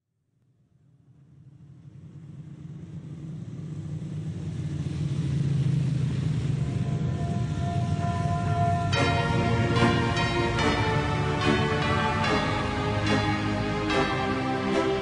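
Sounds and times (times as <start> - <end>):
low rumbling drone: 1.0 - 15.0.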